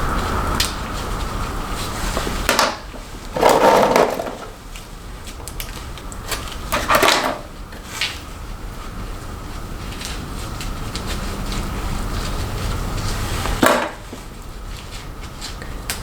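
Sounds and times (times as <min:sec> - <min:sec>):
hair rollers rustling and scraping: 0:00.0 - 0:15.8.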